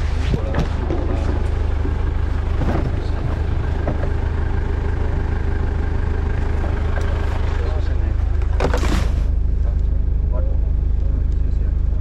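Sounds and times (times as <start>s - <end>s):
vehicle engine low drone: 0.0s - 12.0s.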